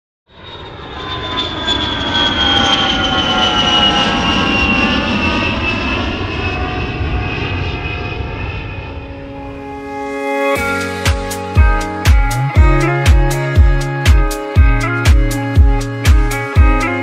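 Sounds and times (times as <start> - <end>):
jet engines rumbling and whining: 0.3 - 17.0.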